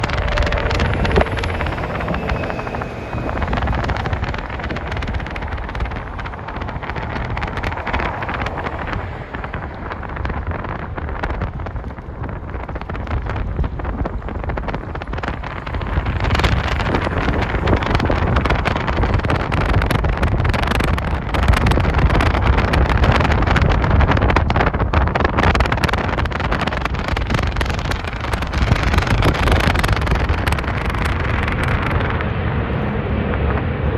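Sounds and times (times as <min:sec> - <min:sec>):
jet engines during takeoff: 0:00.0 - 0:33.9.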